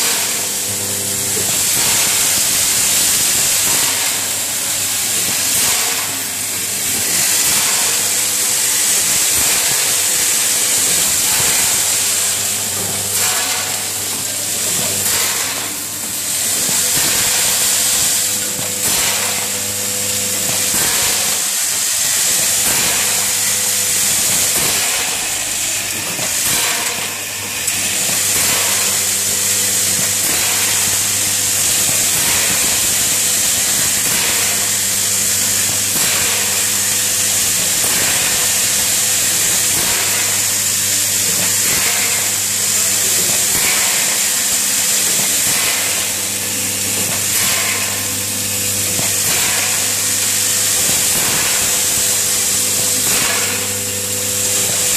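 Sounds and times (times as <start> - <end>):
steady machine hum: 0.0 - 54.9.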